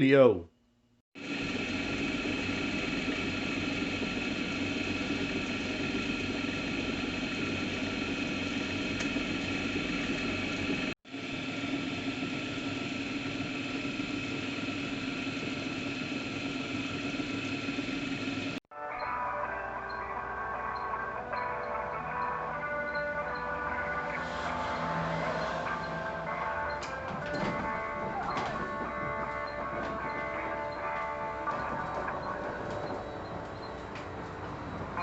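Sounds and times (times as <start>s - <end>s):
drill press motor humming and whining: 1.2s - 18.6s, 24.0s - 35.0s.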